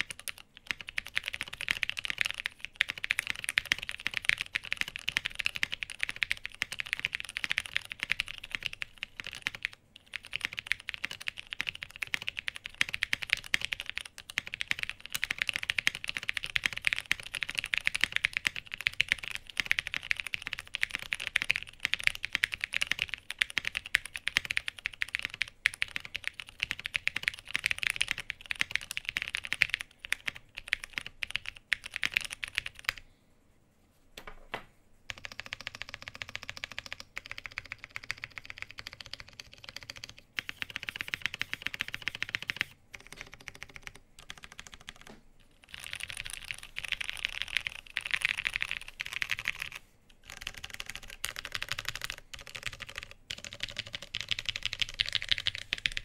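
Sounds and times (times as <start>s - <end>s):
mechanical keyboard typing: 0.0s - 33.0s, 35.1s - 56.0s.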